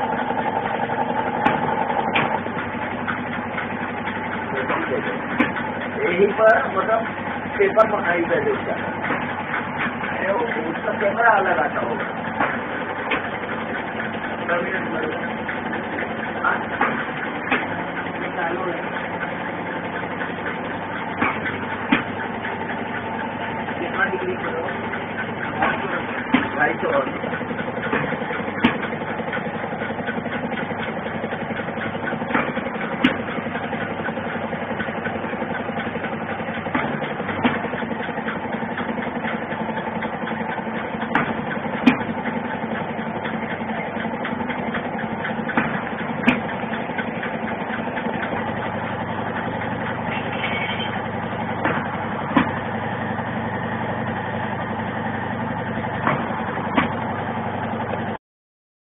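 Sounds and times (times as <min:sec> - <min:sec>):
machine motor hum: 0:00.0 - 0:58.2.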